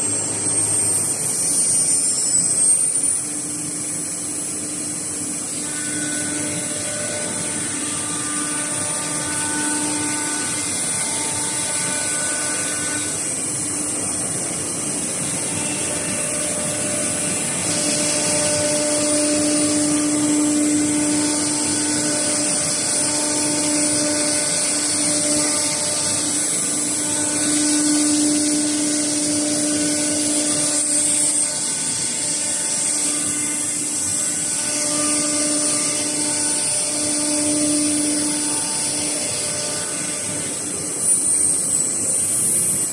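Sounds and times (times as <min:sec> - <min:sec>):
router spindle whine: 0:00.0 - 0:42.9.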